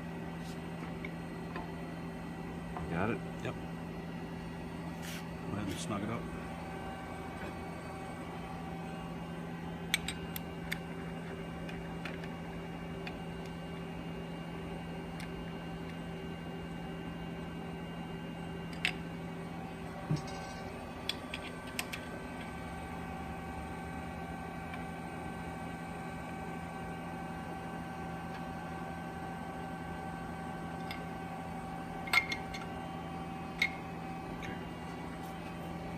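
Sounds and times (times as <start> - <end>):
equipment humming: 0.0 - 35.9.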